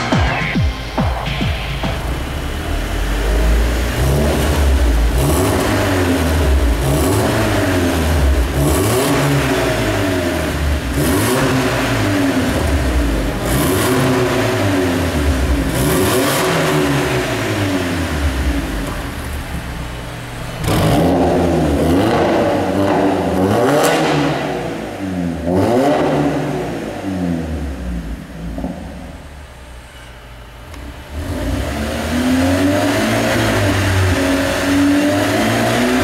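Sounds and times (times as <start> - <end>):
car engine revving: 0.7 - 36.0.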